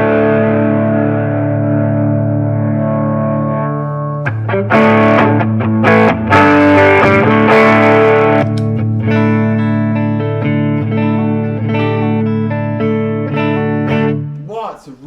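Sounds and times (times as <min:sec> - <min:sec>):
electric guitar chords and notes: 0:00.0 - 0:14.5.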